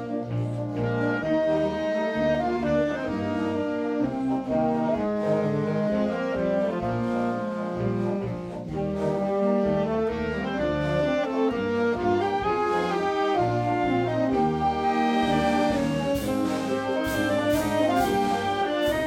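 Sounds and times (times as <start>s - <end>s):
school band playing brass chords: 0.0s - 19.0s.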